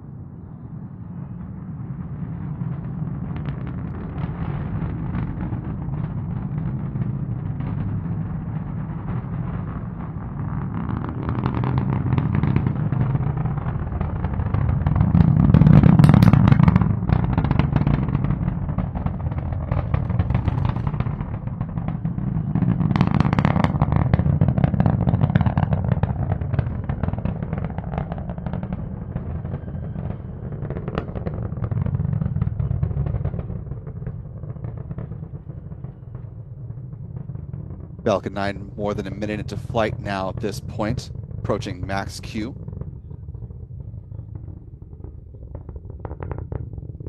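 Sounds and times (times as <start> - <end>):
rocket engine roar: 0.0 - 47.0.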